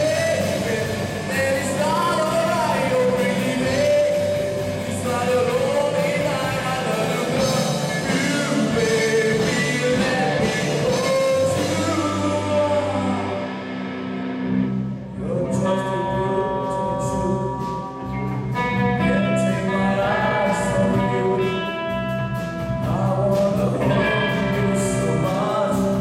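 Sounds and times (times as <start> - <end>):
man singing into microphone: 0.0 - 13.7, 15.1 - 26.0
drum kit: 0.0 - 26.0
electric guitars: 0.0 - 26.0.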